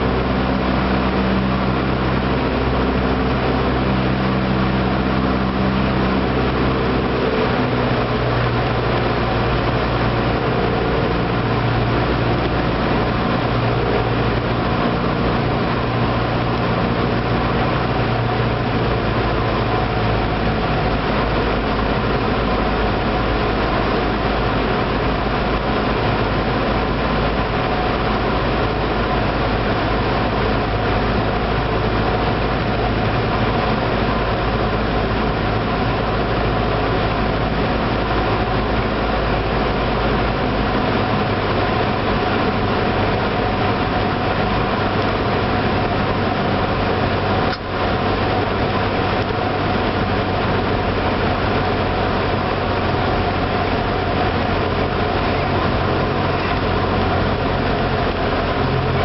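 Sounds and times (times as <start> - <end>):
airplane propeller engine running: 0.0 - 59.0.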